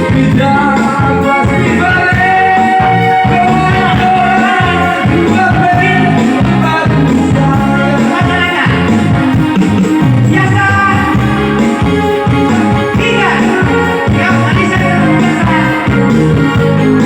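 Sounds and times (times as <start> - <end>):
person singing long notes: 0.0 - 9.6, 10.3 - 17.0
pulsing bass beat: 0.0 - 17.0.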